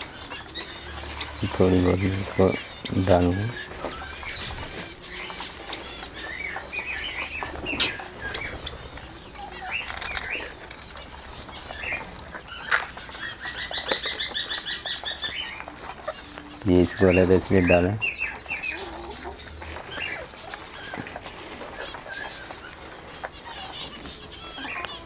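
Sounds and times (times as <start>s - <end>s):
parakeet chattering: 0.0s - 25.0s
parakeets chirping and squawking: 0.0s - 25.0s
wings fluttering: 0.0s - 25.0s.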